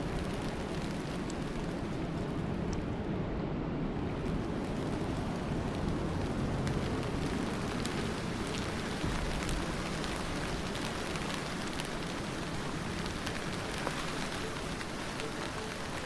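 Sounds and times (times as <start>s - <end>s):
rain hissing: 0.0s - 2.6s, 4.1s - 16.0s
raindrops ticking on hard surface: 0.0s - 2.8s, 4.2s - 16.0s.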